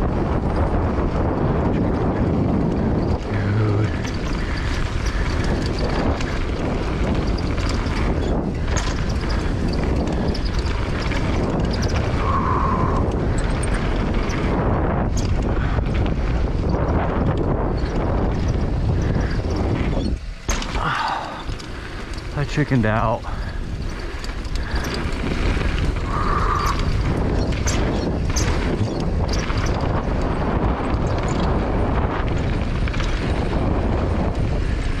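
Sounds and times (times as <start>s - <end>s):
bike rattling and knocking: 0.0s - 35.0s
bike tyres on dirt: 0.0s - 35.0s
wind rushing on microphone: 0.0s - 35.0s.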